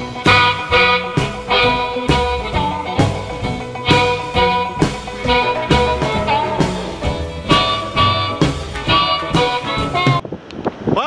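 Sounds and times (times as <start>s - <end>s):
upbeat song with guitar and beat: 0.0s - 10.2s.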